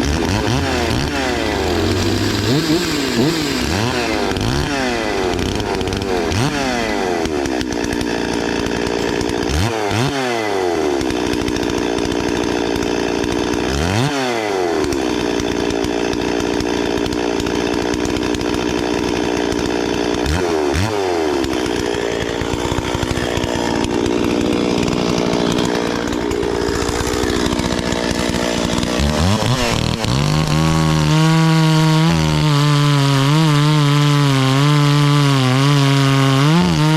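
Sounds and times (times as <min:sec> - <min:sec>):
chainsaw running at high revs: 0:00.0 - 0:36.9.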